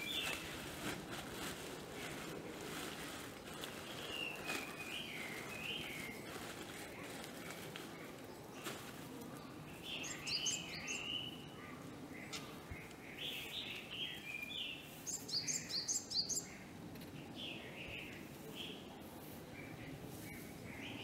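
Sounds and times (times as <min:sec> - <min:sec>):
small birds chirping and singing: 0:00.0 - 0:00.8, 0:03.6 - 0:21.0
low steady background noise: 0:00.0 - 0:21.0.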